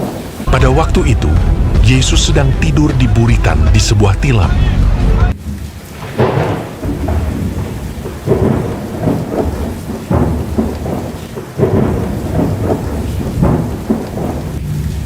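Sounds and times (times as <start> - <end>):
rain: 0.0 - 15.0
rolling thunder: 0.0 - 15.0.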